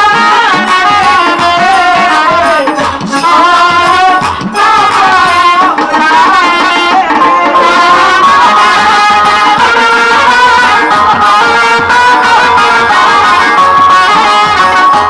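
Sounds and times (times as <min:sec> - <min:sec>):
wavering wind instrument melody: 0:00.0 - 0:15.0.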